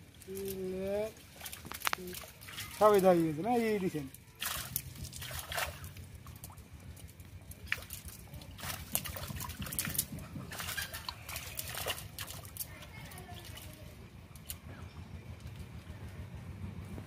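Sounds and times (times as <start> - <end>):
water splashing and sloshing: 0.0 - 14.7.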